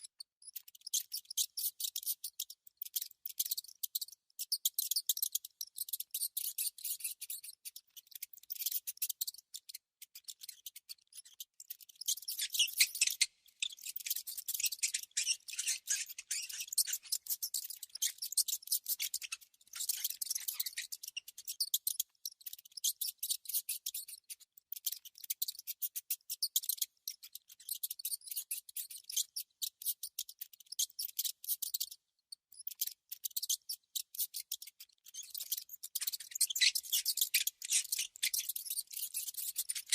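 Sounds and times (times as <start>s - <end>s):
mouse clicking and scraping: 0.0s - 39.9s.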